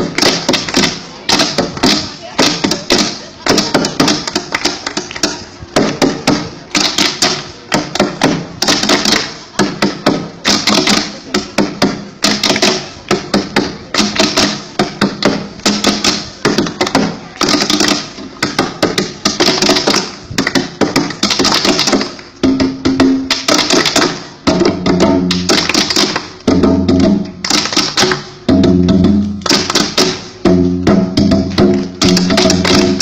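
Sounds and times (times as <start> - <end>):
rapid rhythmic striking: 0.0 - 33.0.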